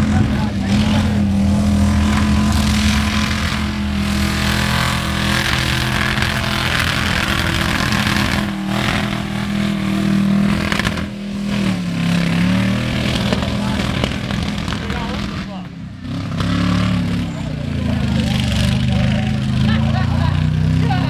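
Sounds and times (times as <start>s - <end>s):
truck engines revving high: 0.0s - 21.0s.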